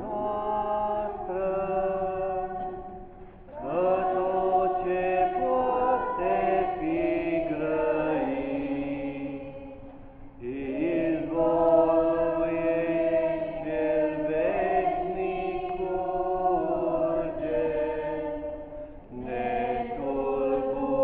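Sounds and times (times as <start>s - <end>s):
women singing a hymn: 0.0s - 21.0s.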